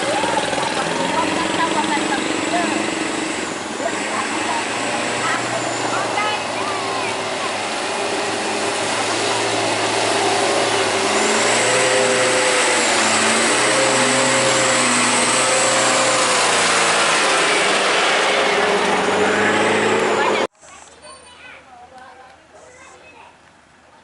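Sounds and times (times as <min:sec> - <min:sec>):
truck diesel engine revving: 0:00.0 - 0:20.5.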